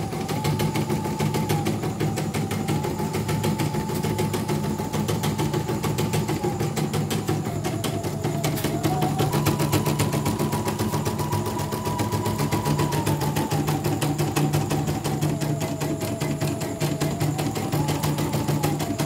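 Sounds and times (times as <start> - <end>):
motor hum and whine: 0.0 - 19.0.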